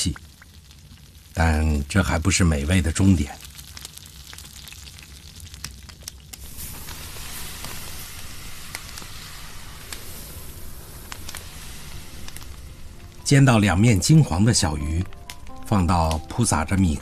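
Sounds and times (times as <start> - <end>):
rice husks crackling and popping: 0.0 - 17.0.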